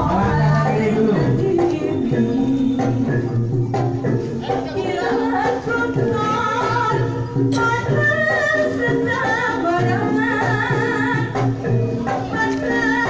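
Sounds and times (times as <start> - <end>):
gamelan instruments playing: 0.0 - 13.0
person singing: 0.0 - 13.0.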